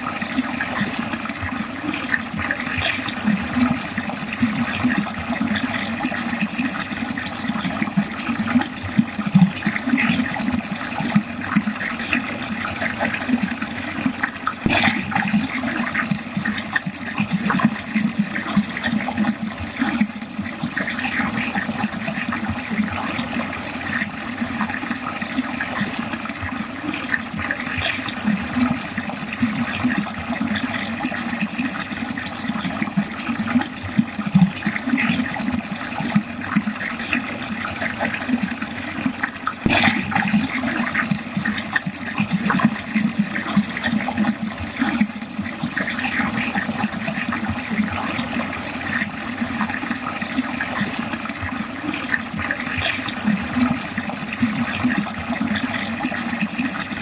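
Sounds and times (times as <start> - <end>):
water gurgling down a drain: 0.0 - 57.0.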